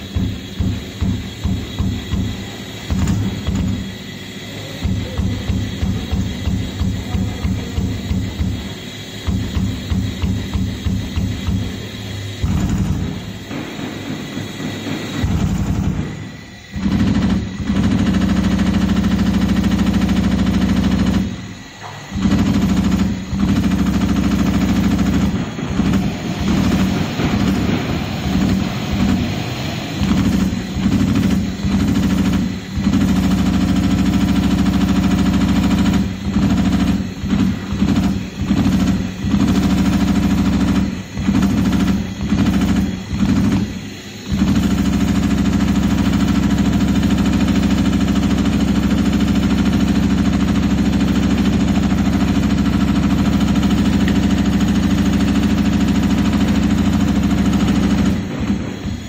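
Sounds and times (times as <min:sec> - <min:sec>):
leather punching machine rattling: 0:00.0 - 0:59.0.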